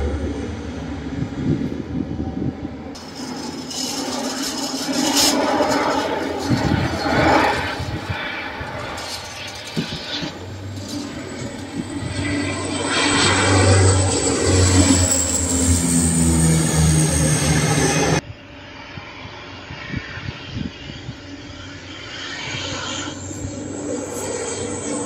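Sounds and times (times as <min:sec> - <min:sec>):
turboprop aircraft flying overhead: 0:00.0 - 0:25.0.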